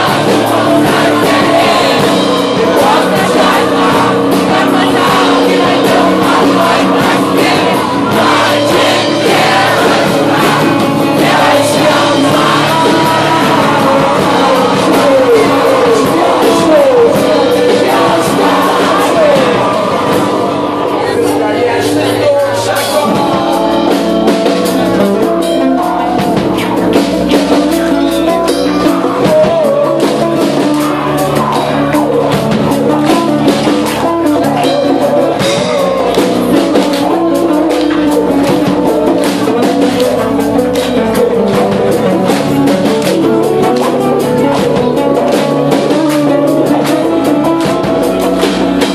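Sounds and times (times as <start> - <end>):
drum kit beat: 0.0 - 48.9
guitars: 0.0 - 48.9.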